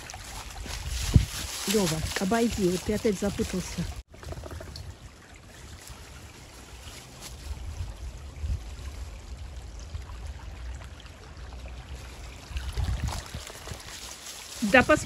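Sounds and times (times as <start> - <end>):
stream babbling: 0.0 - 15.0.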